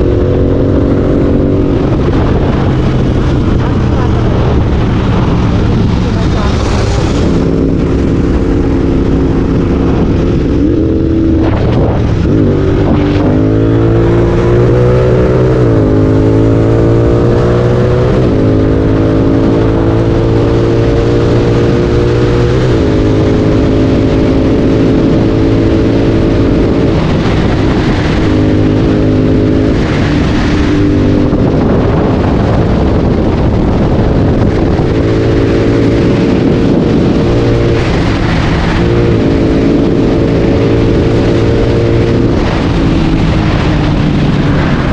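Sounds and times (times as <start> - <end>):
motorcycle engine shifting gears: 0.0 - 44.9.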